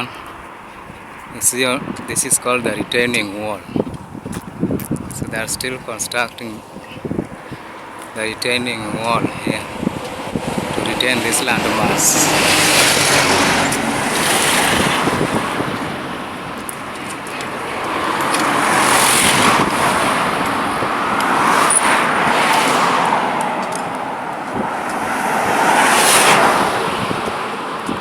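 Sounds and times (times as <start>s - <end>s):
highway traffic passing: 0.0s - 28.0s.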